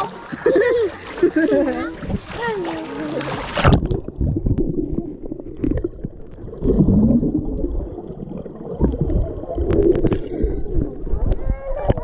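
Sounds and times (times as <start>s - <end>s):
muffled underwater water churning: 0.0s - 12.0s.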